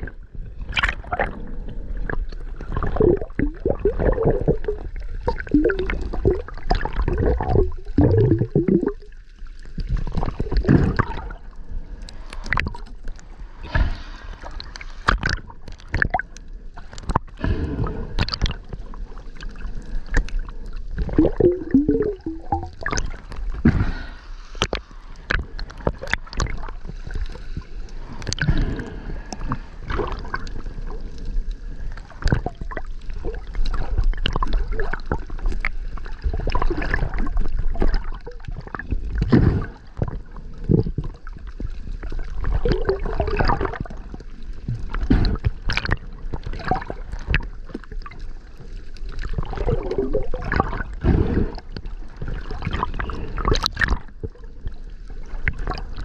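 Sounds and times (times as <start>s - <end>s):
water gurgling and sloshing: 0.0s - 56.0s.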